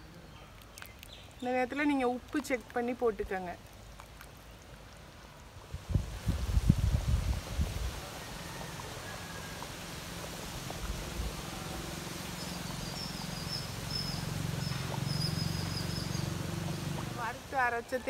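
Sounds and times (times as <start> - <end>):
curry boiling with bubbling: 0.3 - 18.0.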